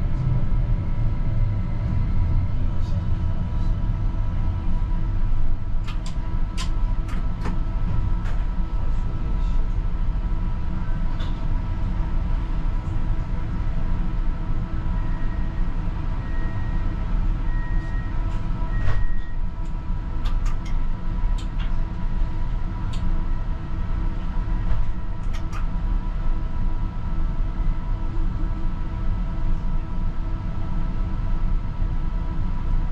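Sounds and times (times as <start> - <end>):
tram equipment humming: 0.0 - 32.9.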